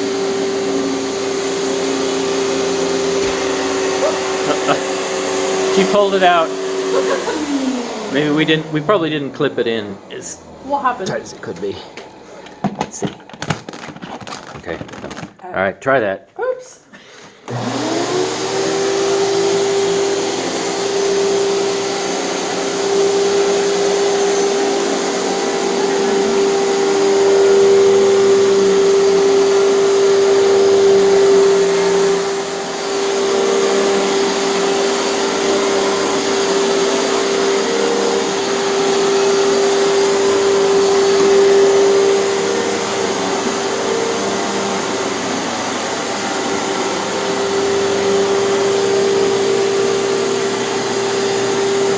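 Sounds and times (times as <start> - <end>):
vacuum cleaner motor whining: 0.0 - 15.4, 17.4 - 51.9.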